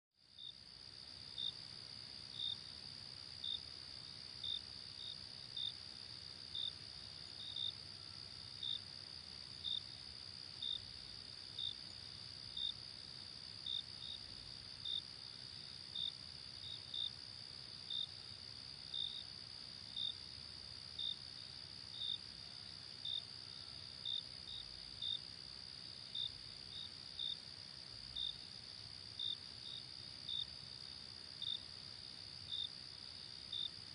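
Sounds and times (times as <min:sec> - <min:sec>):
single cricket chirping: 0:00.4 - 0:33.9.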